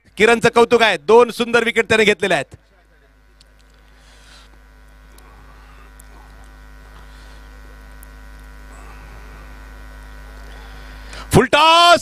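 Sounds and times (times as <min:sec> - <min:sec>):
buzzy electrical mains hum: 0:00.0 - 0:12.0.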